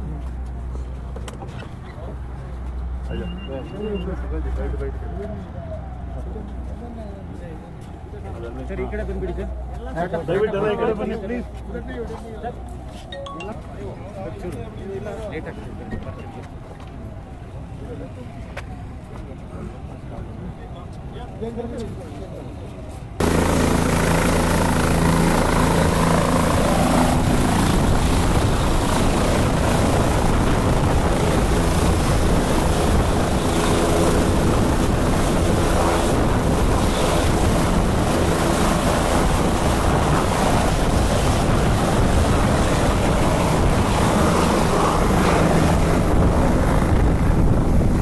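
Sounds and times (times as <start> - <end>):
helicopter rotor and engine noise: 0.0 - 48.0.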